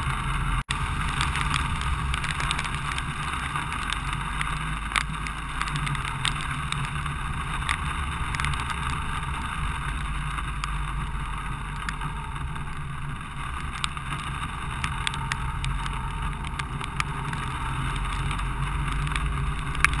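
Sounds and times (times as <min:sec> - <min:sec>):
raindrops ticking on camera: 0:00.0 - 0:20.0
tyres hissing on wet road: 0:00.0 - 0:20.0
vehicle rumble: 0:00.0 - 0:20.0.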